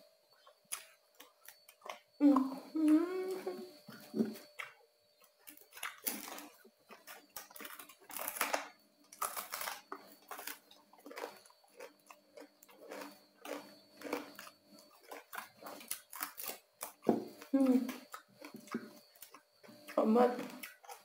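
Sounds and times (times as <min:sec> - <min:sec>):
chewing crispy pork: 0:00.4 - 0:21.0.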